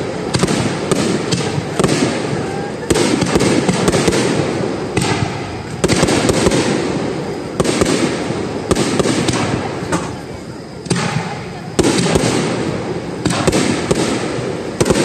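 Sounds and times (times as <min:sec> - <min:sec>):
fireworks bursting with bangs: 0:00.0 - 0:15.0
fireworks crackle: 0:00.0 - 0:15.0
heavy fireworks booms: 0:00.0 - 0:15.0.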